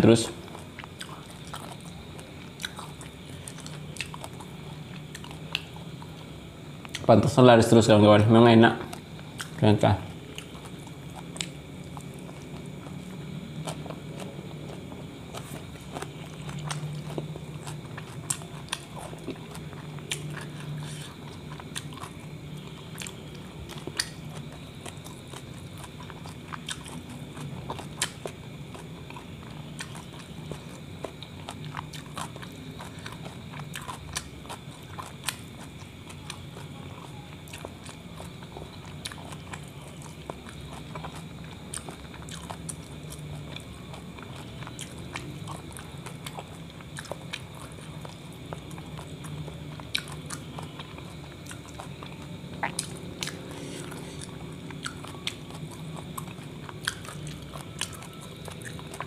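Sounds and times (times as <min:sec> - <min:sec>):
chewing and biting: 0:00.0 - 0:07.1, 0:08.8 - 0:59.0.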